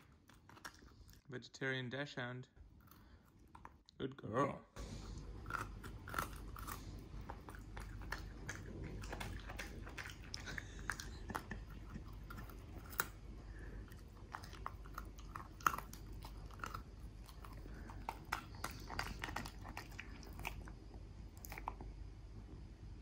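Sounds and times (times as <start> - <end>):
dog crunching a carrot: 0.0 - 1.3, 2.6 - 3.9, 4.8 - 21.8.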